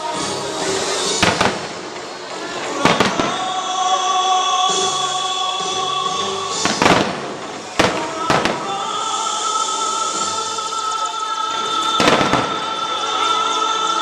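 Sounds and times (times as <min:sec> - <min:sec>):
fireworks bursting: 0:00.0 - 0:14.0
music with long held notes: 0:00.0 - 0:14.0.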